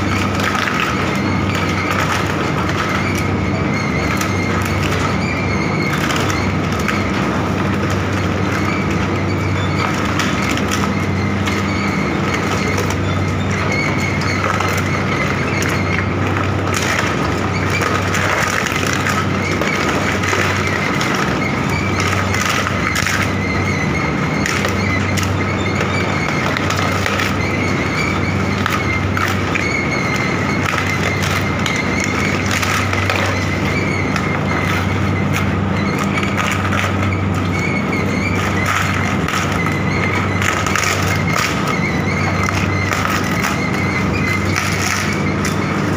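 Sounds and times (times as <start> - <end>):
shredder humming and whining: 0.0 - 45.9.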